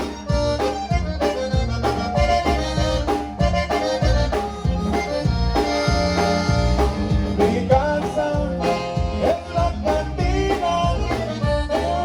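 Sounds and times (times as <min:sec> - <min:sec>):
bass and drum beat: 0:00.0 - 0:12.0
button accordion: 0:00.0 - 0:12.0.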